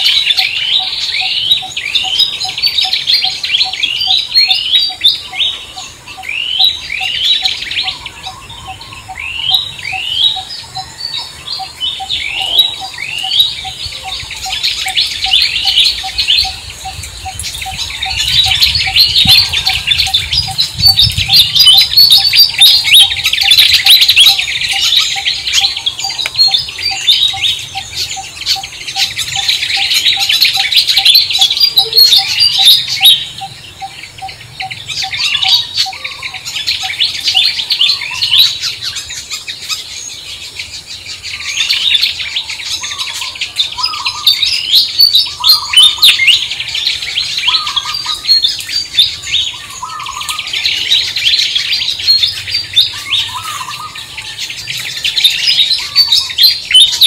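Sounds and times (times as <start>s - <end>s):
lower bird call: 0.0s - 57.0s
small birds chirping: 0.0s - 57.0s.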